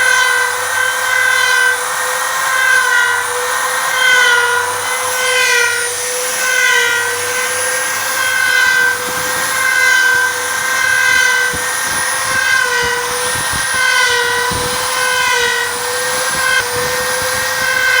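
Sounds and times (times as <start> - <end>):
wood router whining: 0.0 - 18.0.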